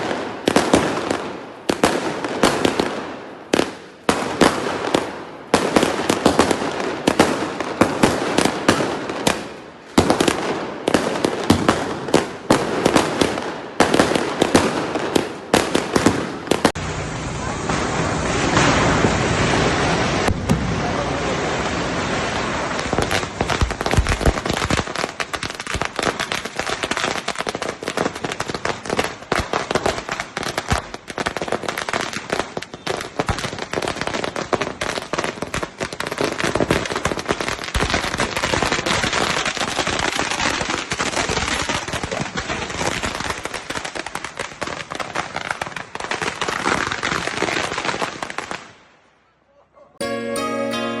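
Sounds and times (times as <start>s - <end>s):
firecrackers crackling: 0.0s - 48.8s.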